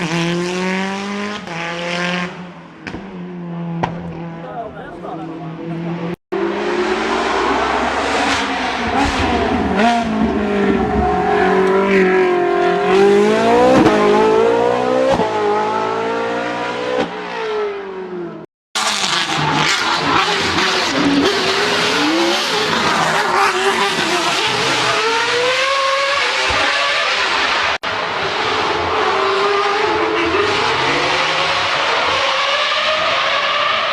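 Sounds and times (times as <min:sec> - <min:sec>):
race car engines revving: 0:00.0 - 0:33.9.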